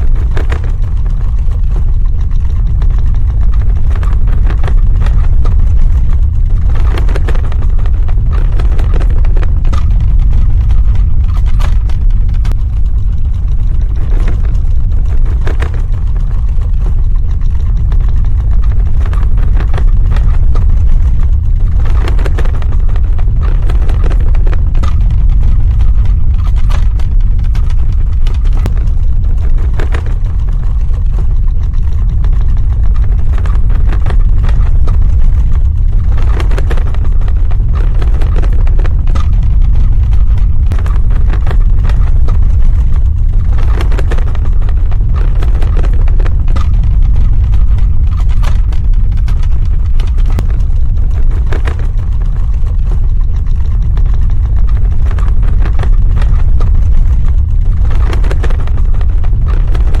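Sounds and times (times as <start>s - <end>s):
crackling rattling surges: 0.0s - 60.0s
deep ground rumble: 0.0s - 60.0s.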